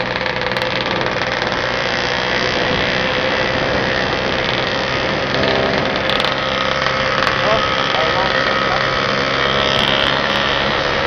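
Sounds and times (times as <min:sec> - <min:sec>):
motorcycle engine running: 0:00.0 - 0:11.0
road noise: 0:00.0 - 0:11.0
wind rush: 0:01.0 - 0:11.0.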